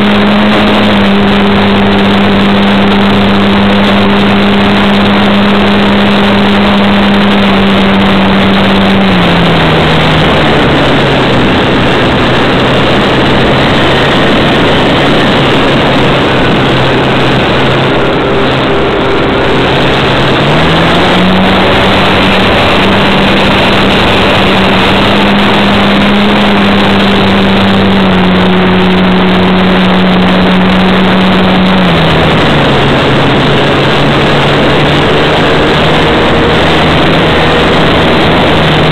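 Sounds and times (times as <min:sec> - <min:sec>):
model airplane motor and propeller: 0:00.0 - 0:38.9
wind rush: 0:00.0 - 0:38.9.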